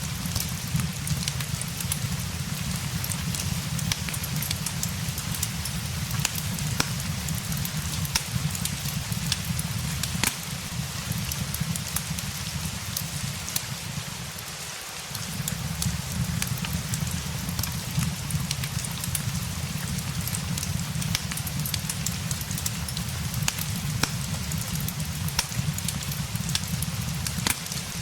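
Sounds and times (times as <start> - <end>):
fire crackling and popping: 0.0 - 28.0
rain hissing: 0.0 - 28.0.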